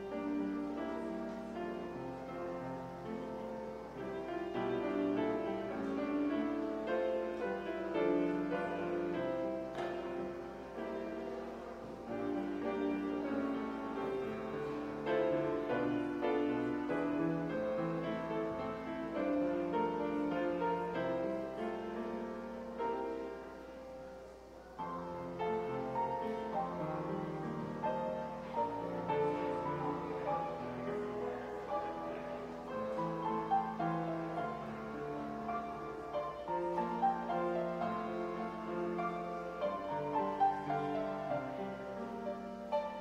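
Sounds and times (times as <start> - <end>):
slow grand piano chords: 0.0 - 43.0.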